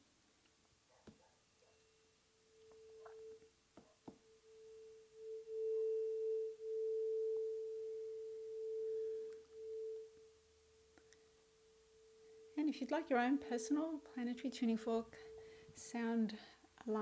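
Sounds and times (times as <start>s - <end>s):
tuning fork ringing: 1.7s - 3.6s, 4.2s - 17.0s.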